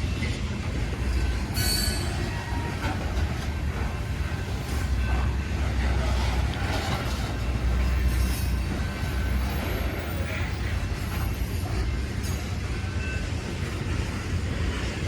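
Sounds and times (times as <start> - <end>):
freight train rolling: 0.0 - 15.0
wheel and rail noise: 0.0 - 15.0.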